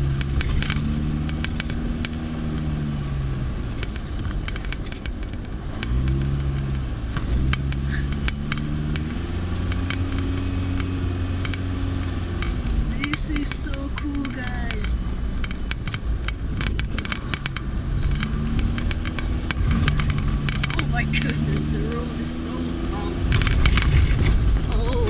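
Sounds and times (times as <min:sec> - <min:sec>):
clicks and knocks of car bouncing: 0:00.0 - 0:02.8, 0:03.5 - 0:22.1, 0:23.3 - 0:24.7
car engine accelerating: 0:00.0 - 0:25.0.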